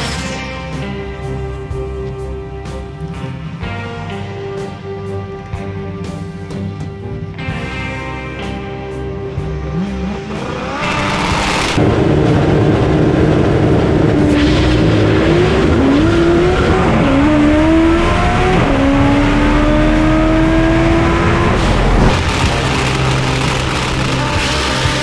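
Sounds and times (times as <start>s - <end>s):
race car accelerating: 0.8s - 25.0s.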